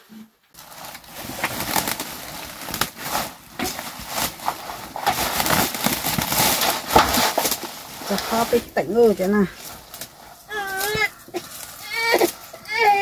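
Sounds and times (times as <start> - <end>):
leafy greens rustling: 0.0 - 13.0
plastic bag crinkling: 0.6 - 13.0.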